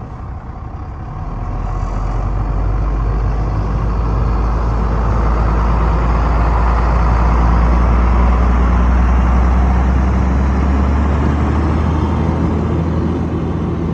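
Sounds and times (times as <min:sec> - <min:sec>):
diesel engine idling: 0:00.0 - 0:13.9.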